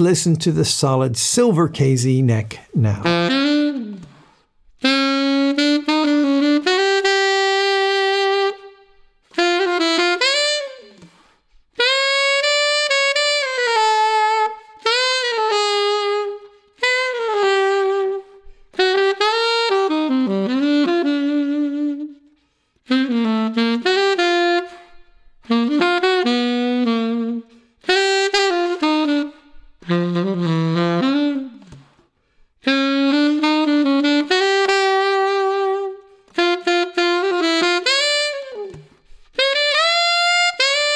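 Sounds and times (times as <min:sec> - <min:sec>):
alto saxophone melody: 0:01.6 - 0:40.9.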